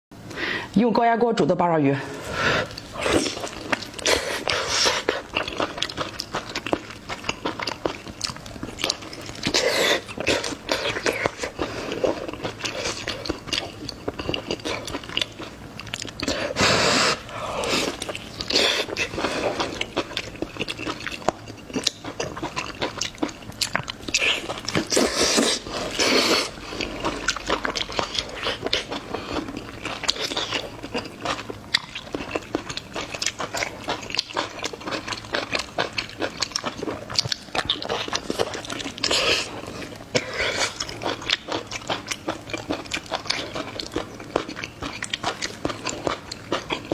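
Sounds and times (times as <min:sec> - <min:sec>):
person chewing food: 0:02.0 - 0:46.9.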